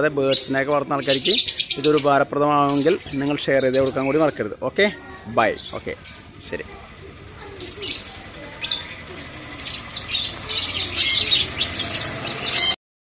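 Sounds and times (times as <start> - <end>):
parrots chirping and screeching: 0.0 - 12.8.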